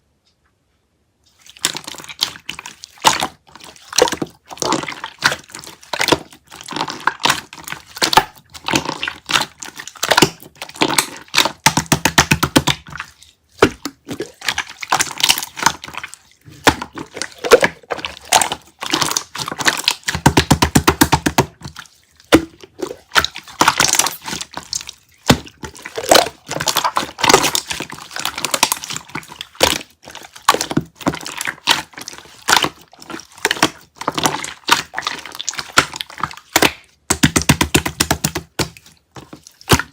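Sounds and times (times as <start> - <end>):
wet jelly squishing and crackling: 1.3 - 39.9.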